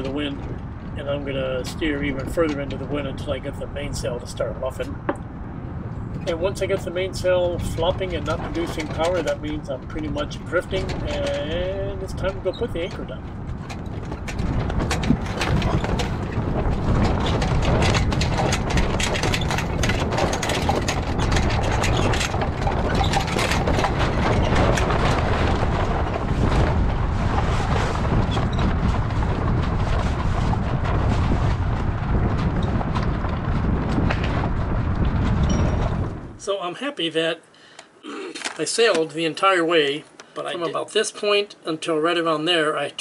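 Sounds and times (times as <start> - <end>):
wind rumbling on microphone: 0.0 - 36.5
sail flapping and crackling: 0.0 - 36.6.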